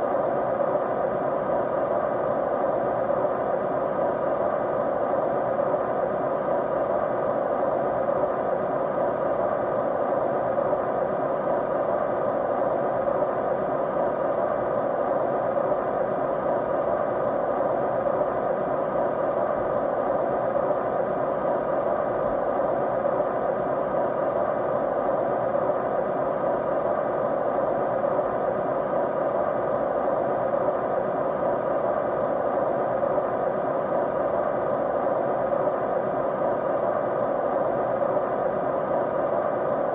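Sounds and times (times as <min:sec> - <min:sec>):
faint steady tones: 0:00.0 - 0:39.9
white noise hiss: 0:00.0 - 0:39.9.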